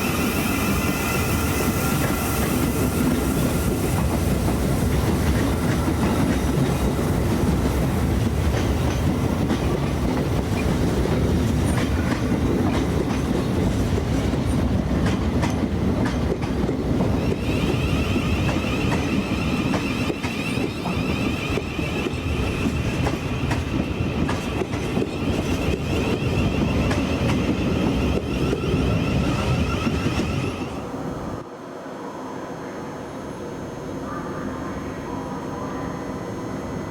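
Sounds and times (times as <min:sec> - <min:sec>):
electric train rumbling: 0:00.0 - 0:36.9.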